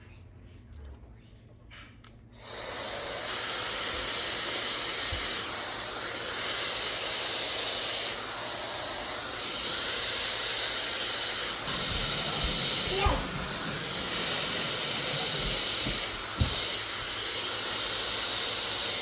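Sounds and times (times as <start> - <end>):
blow dryer running: 2.4 - 19.0.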